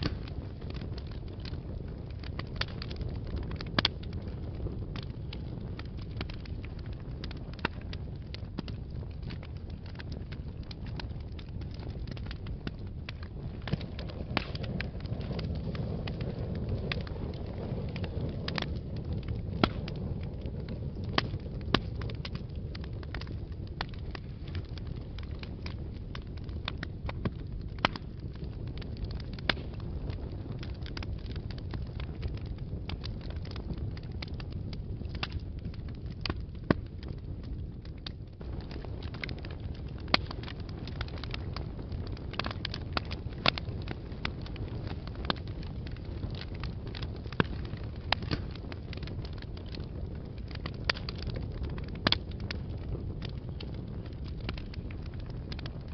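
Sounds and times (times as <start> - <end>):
fire crackling and rumbling: 0.0 - 55.9.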